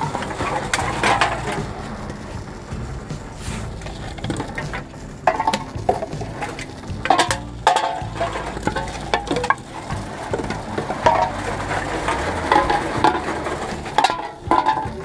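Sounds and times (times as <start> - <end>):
drink containers clattering: 0.0 - 15.0
machine hum: 0.0 - 15.0.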